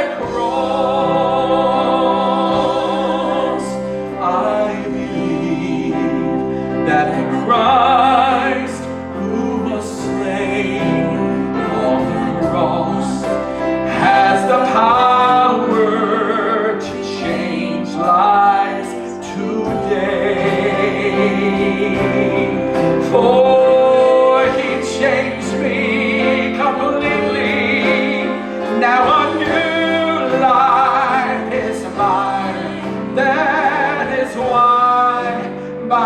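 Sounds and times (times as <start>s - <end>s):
instrumental accompaniment: 0.0s - 36.0s
person singing with vibrato: 0.0s - 36.0s.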